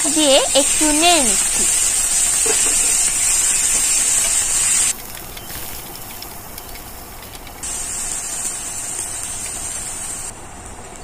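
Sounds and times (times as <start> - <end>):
chicken sizzling in a frying pan: 0.0 - 10.3.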